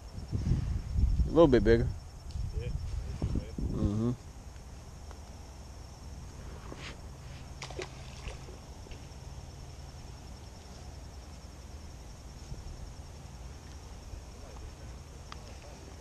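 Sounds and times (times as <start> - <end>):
high insect trill: 0.0 - 16.0.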